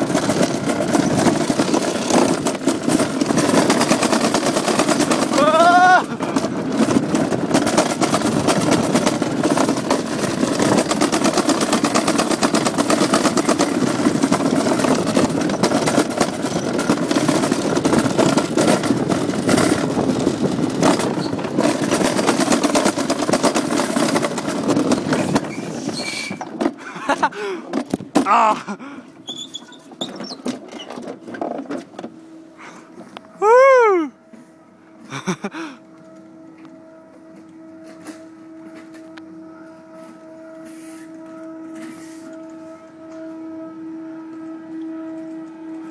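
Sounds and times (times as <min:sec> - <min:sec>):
sled rattling down steel track: 0:00.0 - 0:45.9.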